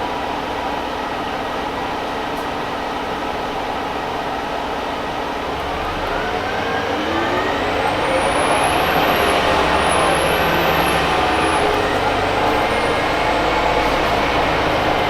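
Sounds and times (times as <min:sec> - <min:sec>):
bus drivetrain whine: 0:00.0 - 0:15.0
bus engine drone: 0:00.0 - 0:15.0.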